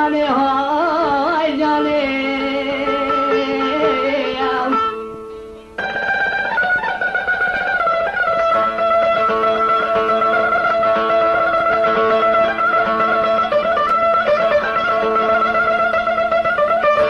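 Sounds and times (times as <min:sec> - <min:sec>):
plucked string instrumental music: 0:00.0 - 0:17.0.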